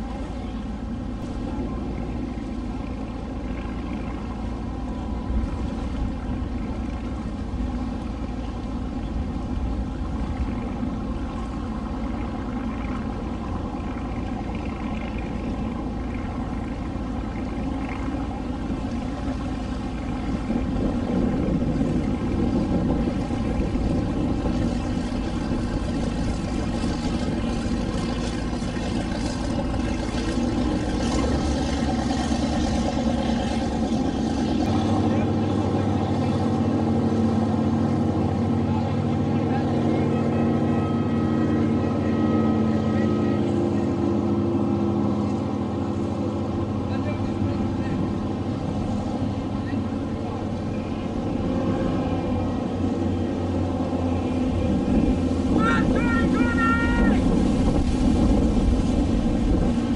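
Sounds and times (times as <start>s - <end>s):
motorboat engine running: 0.0s - 59.9s.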